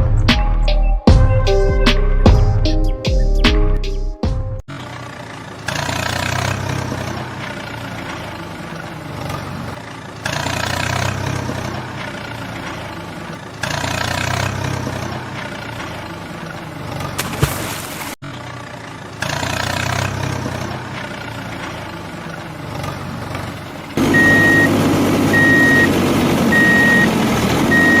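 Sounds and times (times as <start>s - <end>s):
truck engine idling and revving: 3.5s - 28.0s.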